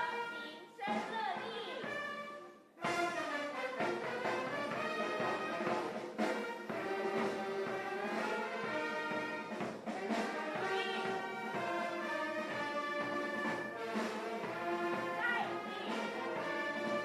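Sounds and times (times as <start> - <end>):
instrumental ensemble music: 0.0 - 17.0
brass horns holding long notes: 1.8 - 17.0.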